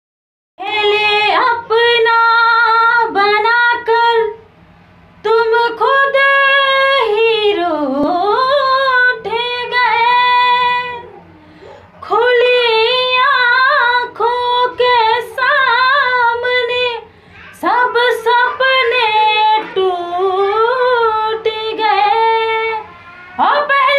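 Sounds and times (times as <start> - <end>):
woman singing unaccompanied: 0.6 - 4.4, 5.2 - 11.2, 12.0 - 23.9.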